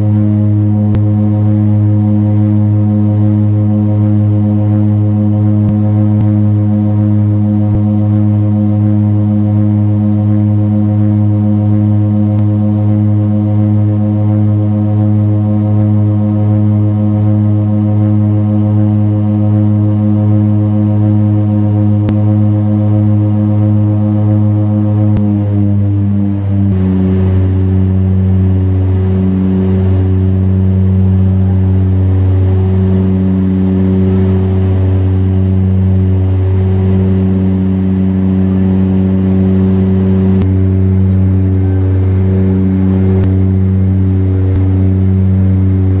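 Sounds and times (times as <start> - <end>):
propeller engines droning in cabin: 0.0 - 46.0.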